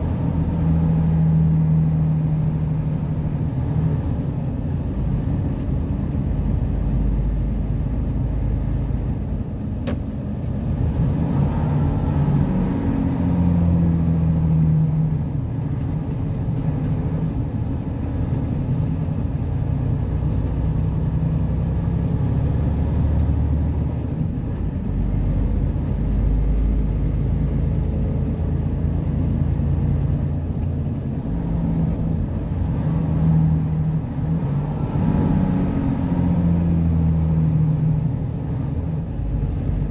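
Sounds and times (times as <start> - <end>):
vehicle engine and tyre rumble: 0.0 - 39.9.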